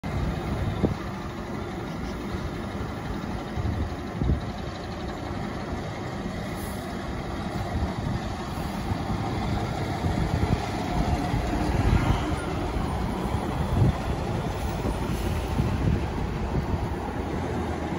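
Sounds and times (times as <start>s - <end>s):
heavy truck engine running: 0.0s - 17.9s.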